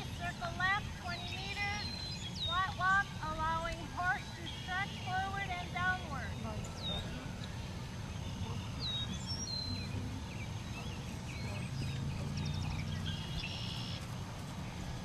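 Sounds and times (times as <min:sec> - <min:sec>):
bird trill: 0:00.0 - 0:15.0
low outdoor rumble: 0:00.0 - 0:15.0
small birds chirping and whistling: 0:00.0 - 0:15.0.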